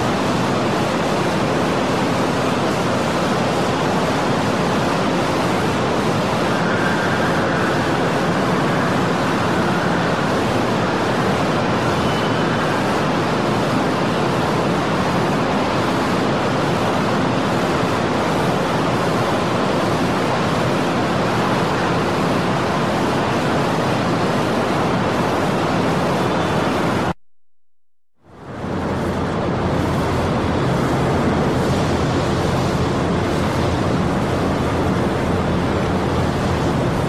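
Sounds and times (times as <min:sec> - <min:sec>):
machinery rumble and hiss: 0:00.0 - 0:27.2, 0:28.3 - 0:37.0.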